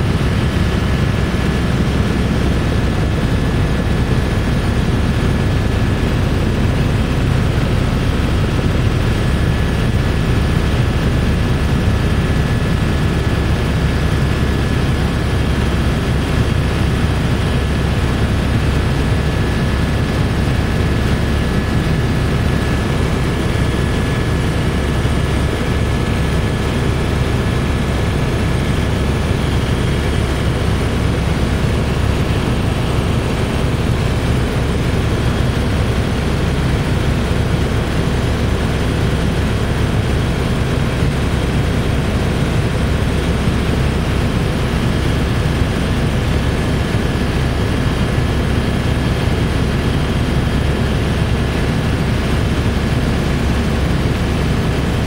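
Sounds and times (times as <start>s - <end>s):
helicopter drone from inside cabin: 0.0s - 55.0s.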